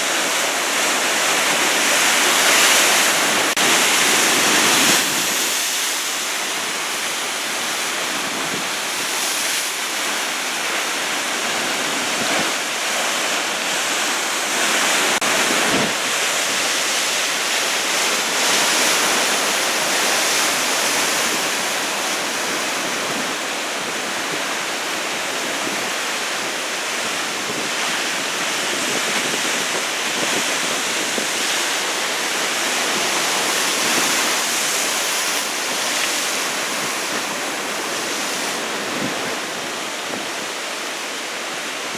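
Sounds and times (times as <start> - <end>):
surf roaring and hissing: 0.0 - 41.9.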